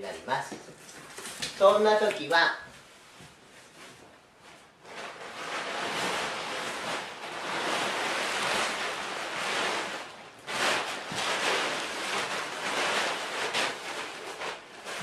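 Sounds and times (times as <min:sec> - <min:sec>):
plastic tarp rustling and crinkling: 0:00.0 - 0:15.0.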